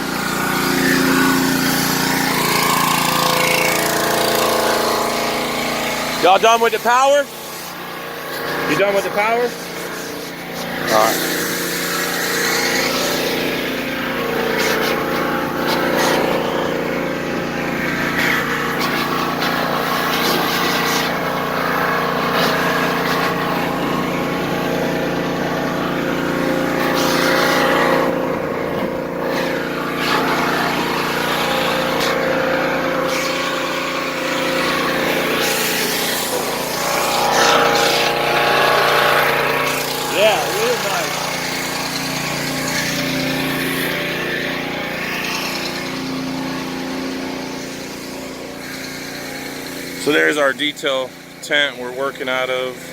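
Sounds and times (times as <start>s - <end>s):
engine running steadily: 0.0s - 52.9s.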